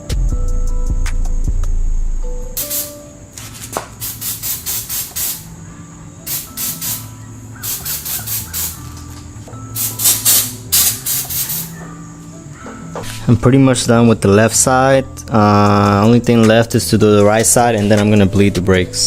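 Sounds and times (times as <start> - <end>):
hip-hop instrumental music: 0.0 - 19.0.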